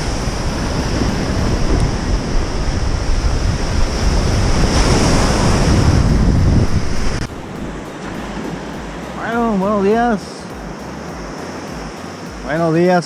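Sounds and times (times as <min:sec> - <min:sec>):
wind buffeting microphone: 0:00.0 - 0:12.0
surf breaking on shore: 0:00.0 - 0:13.0.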